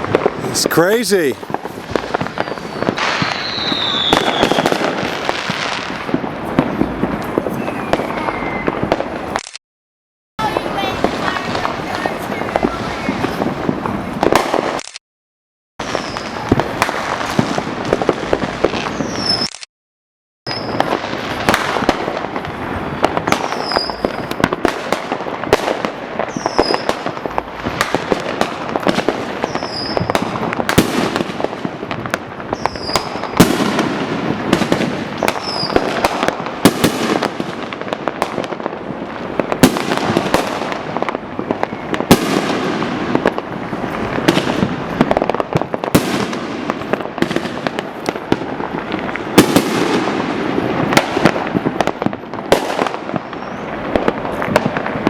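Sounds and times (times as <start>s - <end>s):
fireworks and firecrackers bangs: 0.0s - 9.6s, 10.4s - 15.0s, 15.8s - 19.6s, 20.5s - 55.0s.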